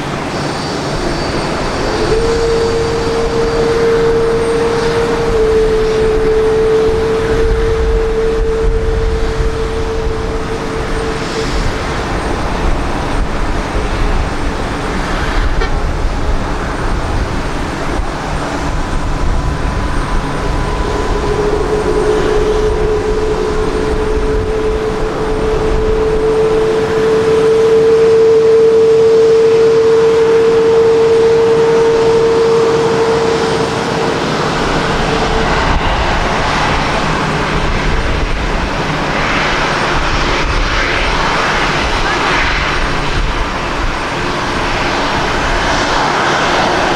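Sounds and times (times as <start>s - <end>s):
jet engines whining and rumbling: 0.0s - 46.9s.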